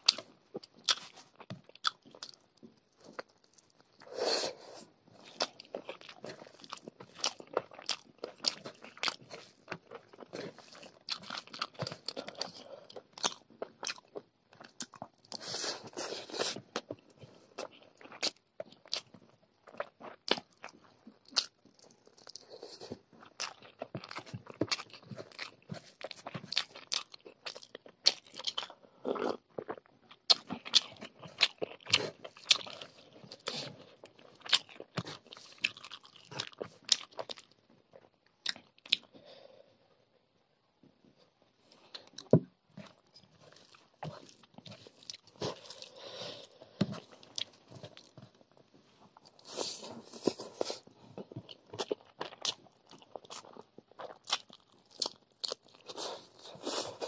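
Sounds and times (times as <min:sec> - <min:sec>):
close chewing with mouth clicks: 0:00.0 - 0:39.2, 0:41.7 - 0:57.0.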